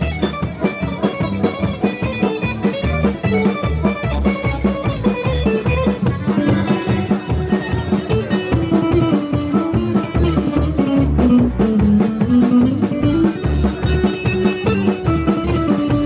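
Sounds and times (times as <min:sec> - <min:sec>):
drums keeping a steady beat: 0:00.0 - 0:16.0
guitar melody: 0:00.0 - 0:16.0.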